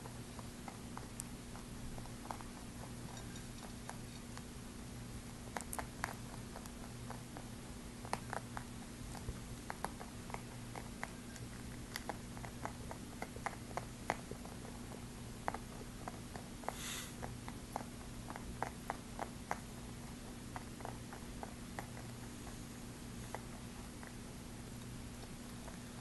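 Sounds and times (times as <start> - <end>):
rabbit chewing: 0.0 - 26.0.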